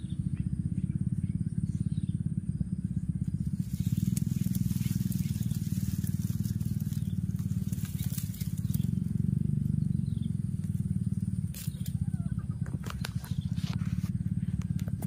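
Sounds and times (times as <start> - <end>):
small engine pulsing drone: 0.0 - 15.0.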